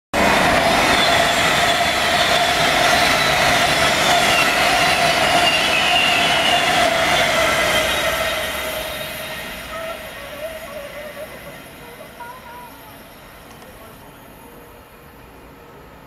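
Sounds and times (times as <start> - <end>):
electric train passing: 0.2 - 16.0.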